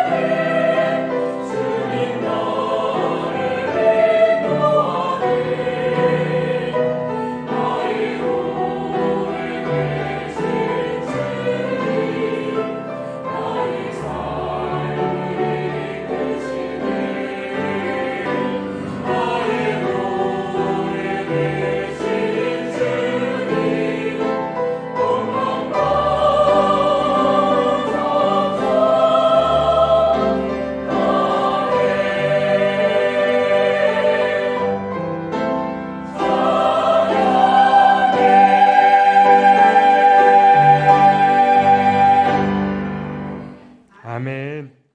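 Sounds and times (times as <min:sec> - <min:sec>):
mixed choir singing: 0:00.0 - 0:44.2
cello: 0:00.0 - 0:44.6
piano: 0:00.0 - 0:44.7.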